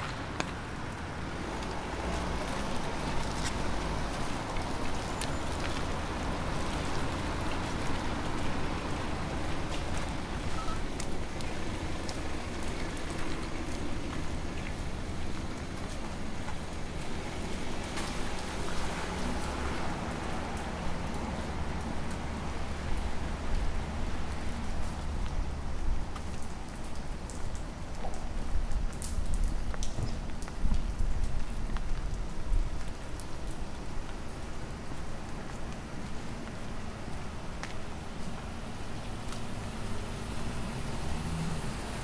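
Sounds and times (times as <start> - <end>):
rain falling: 0.0 - 42.0
raindrops ticking on surfaces: 0.0 - 42.0.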